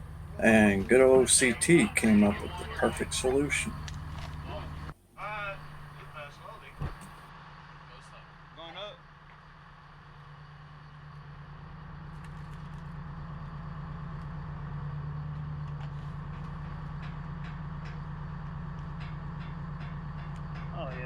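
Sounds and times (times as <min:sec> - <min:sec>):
crane engine running: 0:00.0 - 0:21.0.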